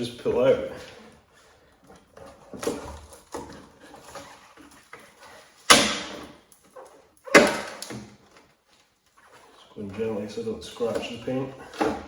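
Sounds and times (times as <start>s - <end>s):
plastic handling noises: 0.0s - 12.0s.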